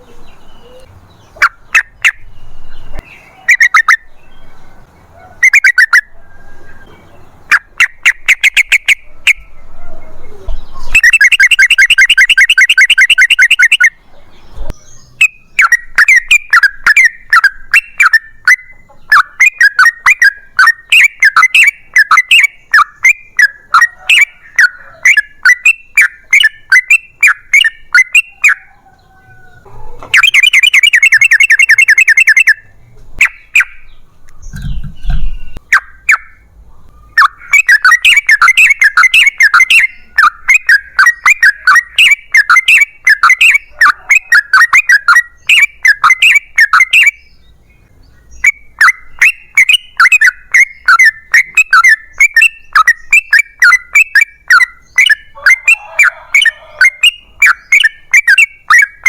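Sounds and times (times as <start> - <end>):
bird singing bubbling notes: 0.0 - 4.5, 5.4 - 9.6, 10.2 - 28.6, 30.1 - 47.4, 48.3 - 59.0.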